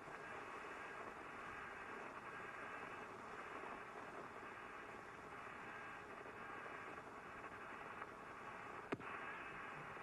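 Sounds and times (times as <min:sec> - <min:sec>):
steady tape hiss: 0:00.0 - 0:10.0.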